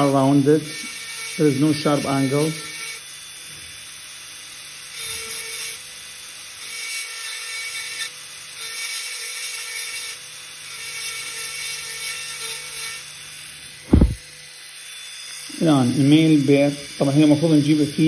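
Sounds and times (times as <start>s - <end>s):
dental drill whining: 0.0s - 18.0s.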